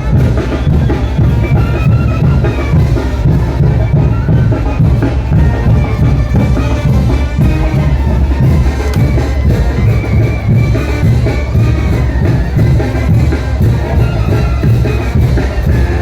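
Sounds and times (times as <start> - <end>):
brass band playing: 0.0 - 16.0
steady drum beat: 0.0 - 16.0.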